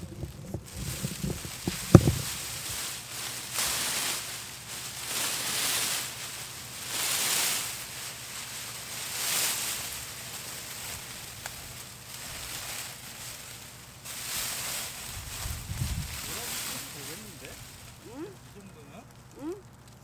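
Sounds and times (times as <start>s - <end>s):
plastic film and dry stalks rustling: 0.0s - 20.0s.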